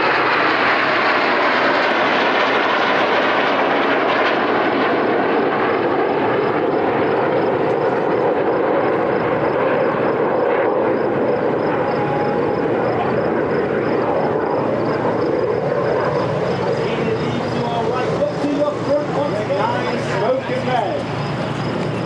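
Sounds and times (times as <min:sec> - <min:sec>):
jets flying past roaring: 0:00.0 - 0:22.0.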